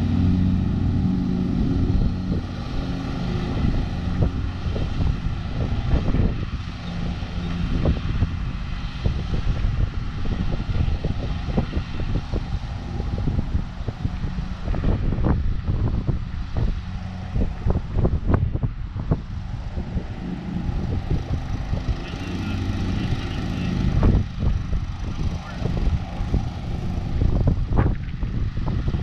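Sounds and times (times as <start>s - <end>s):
distant lawn mower engine: 0.0s - 29.0s
wind buffeting microphone: 0.0s - 29.0s.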